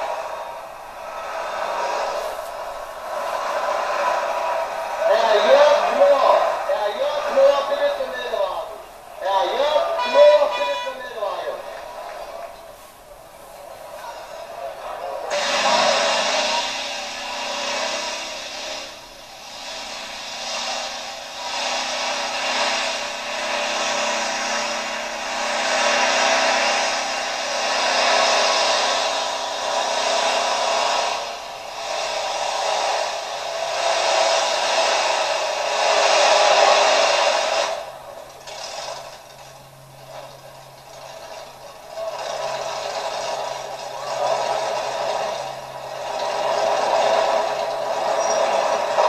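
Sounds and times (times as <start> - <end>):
tractor engine at full throttle: 0.0 - 49.0.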